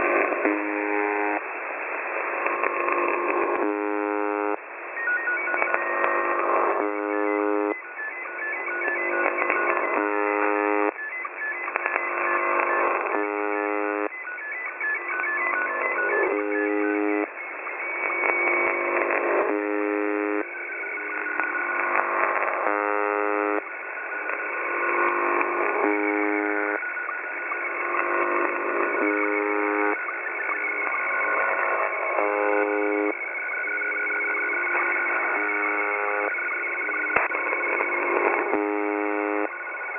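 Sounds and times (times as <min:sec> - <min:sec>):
harsh radio buzz tone: 0:00.0 - 0:01.5, 0:02.1 - 0:04.6, 0:05.3 - 0:23.7, 0:24.3 - 0:39.8
radio static noise: 0:00.0 - 0:39.9.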